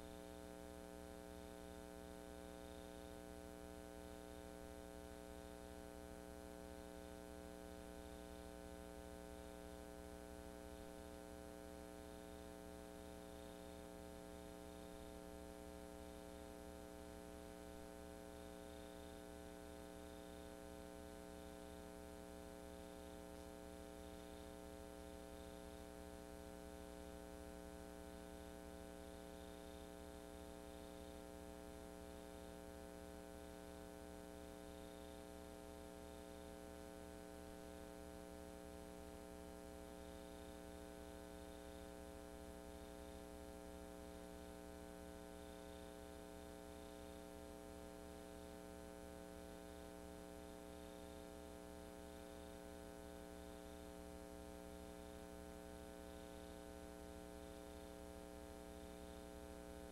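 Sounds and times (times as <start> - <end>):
electrical hum with buzz: 0.0 - 59.9.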